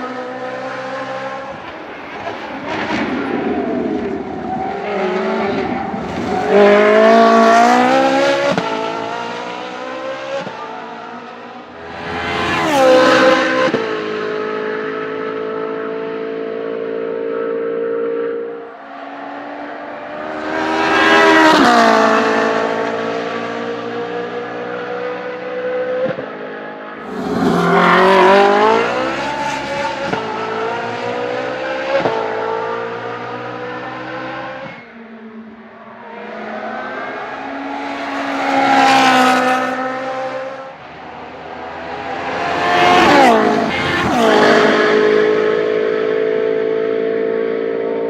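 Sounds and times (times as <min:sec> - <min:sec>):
race car engine at speed: 0:00.0 - 0:48.0.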